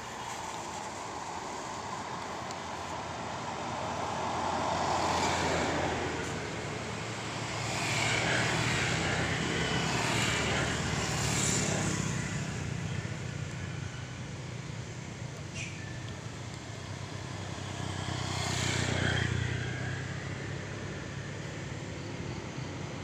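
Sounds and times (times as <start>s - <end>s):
motor vehicles passing: 0.2s - 23.0s.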